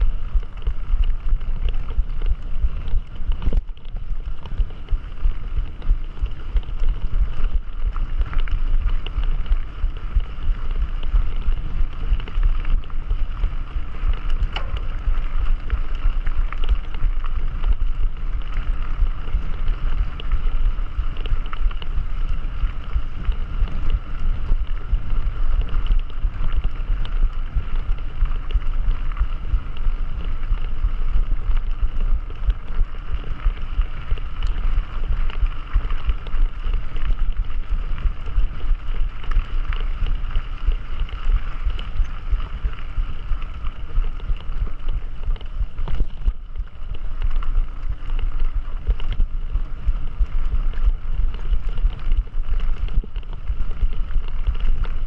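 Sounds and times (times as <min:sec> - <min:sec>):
mountain bike rolling: 0:00.0 - 0:55.0
small clicks and rattles: 0:00.0 - 0:55.0
wind buffeting microphone: 0:00.0 - 0:55.0.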